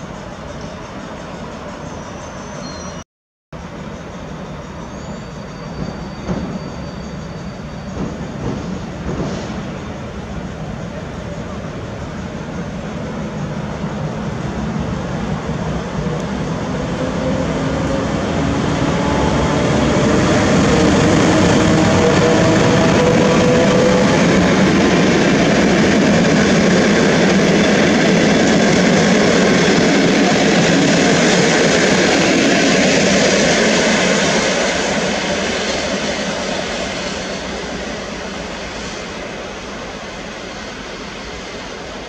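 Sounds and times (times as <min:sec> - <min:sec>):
train wheels clattering on rails: 0:03.6 - 0:16.8, 0:18.2 - 0:42.0
locomotive hum: 0:03.6 - 0:42.0.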